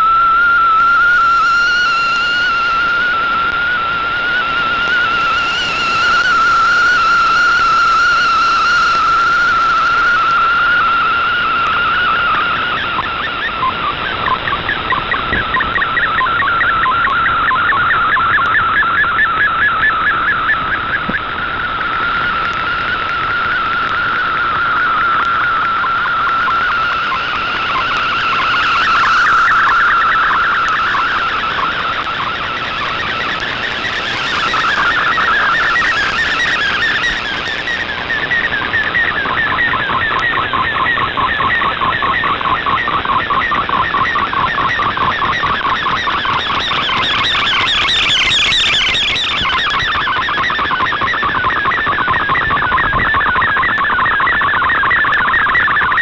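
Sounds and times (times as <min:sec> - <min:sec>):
wavering whistling data tone: 0:00.0 - 0:56.0
shortwave radio hiss: 0:05.1 - 0:55.7.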